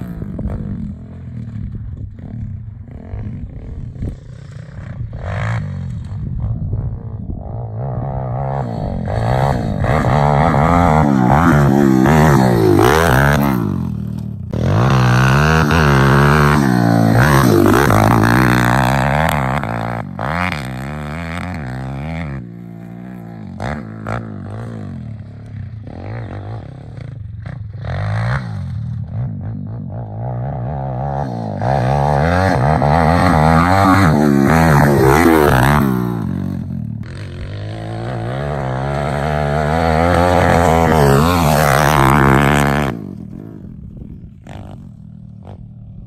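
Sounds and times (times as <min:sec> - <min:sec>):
motorbike engine revving: 0:00.0 - 0:46.0.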